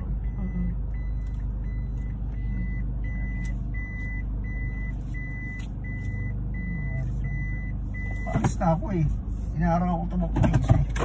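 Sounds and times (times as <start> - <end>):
car warning beeper: 0.0 - 9.0
engine and road hum: 0.0 - 11.0.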